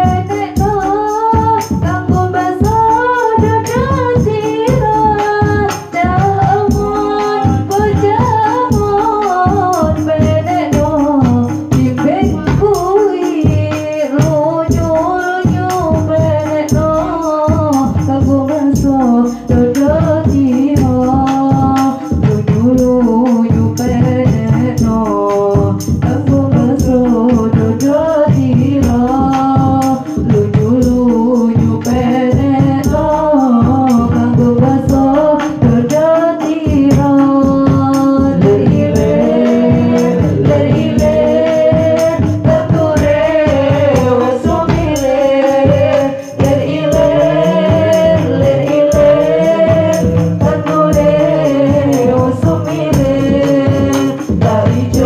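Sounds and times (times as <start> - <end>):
bass drum: 0.0 - 55.0
frame drums: 0.0 - 55.0
hand drum: 0.0 - 55.0
woman singing through loudspeakers: 0.0 - 55.0.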